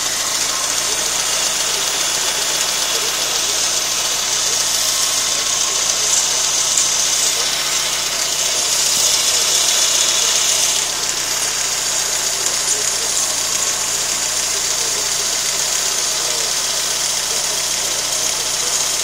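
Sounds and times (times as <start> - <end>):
car engine idling: 0.0 - 19.0
high hiss: 0.0 - 19.0.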